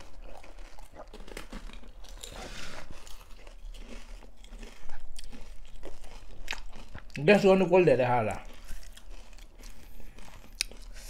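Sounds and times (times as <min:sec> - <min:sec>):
crisp shells crunching and chewed: 0:00.0 - 0:11.0.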